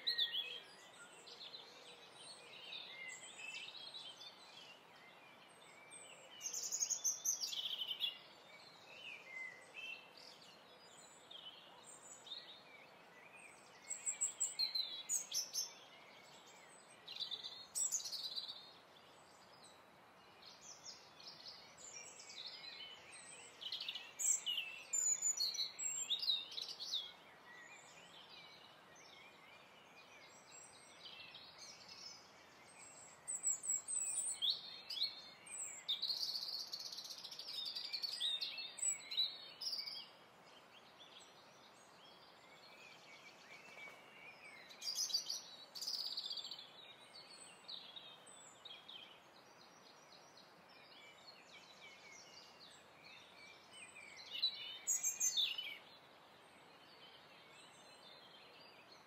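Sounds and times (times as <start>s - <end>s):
faint steady hiss: 0.0s - 59.0s
songbirds chirping and trilling: 0.0s - 59.0s.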